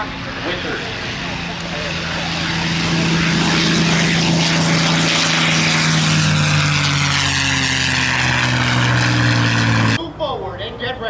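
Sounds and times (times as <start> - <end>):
propeller plane engine passing: 0.0 - 11.0.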